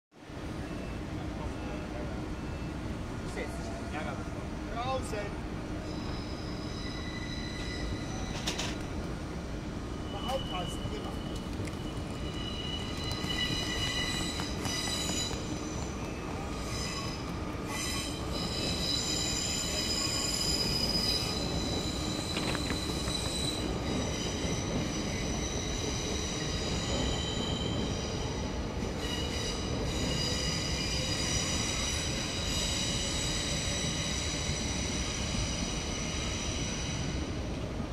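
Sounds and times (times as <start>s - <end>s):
train rolling rumble: 0.2s - 37.9s
train wheels squealing: 0.5s - 4.9s, 5.7s - 9.0s, 9.8s - 37.5s.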